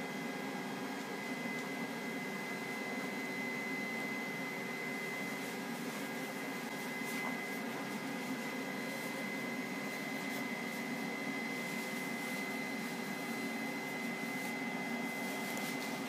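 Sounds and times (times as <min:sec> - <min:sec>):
air fryer fan whirring: 0:00.0 - 0:16.0.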